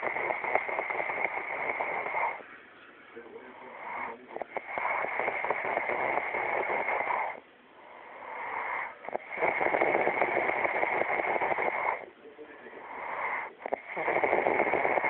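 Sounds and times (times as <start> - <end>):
person snoring: 0.0 - 2.4, 3.5 - 15.0
soft breath: 0.0 - 15.0.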